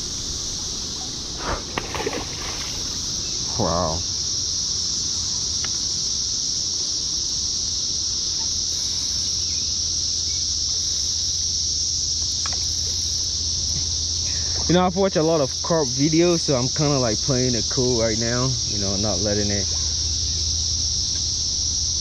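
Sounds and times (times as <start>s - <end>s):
low steady hum: 0.0s - 5.6s, 6.6s - 22.0s
cicadas buzzing: 0.0s - 22.0s.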